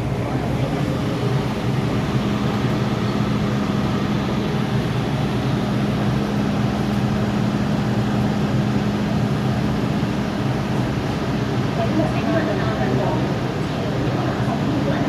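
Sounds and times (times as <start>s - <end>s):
train running through tunnel: 0.0s - 15.0s.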